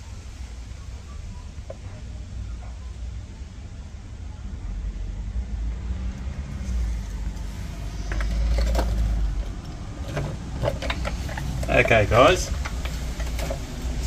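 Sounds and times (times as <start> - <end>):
passing vehicle rumble: 0.0 - 14.0.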